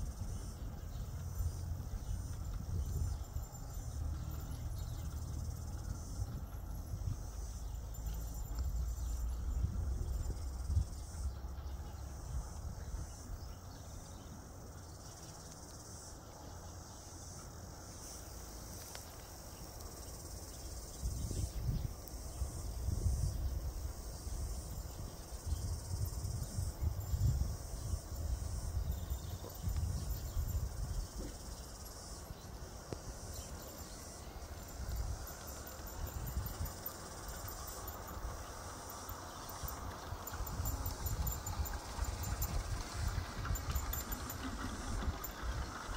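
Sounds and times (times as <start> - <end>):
insects chirping: 0.0 - 45.9.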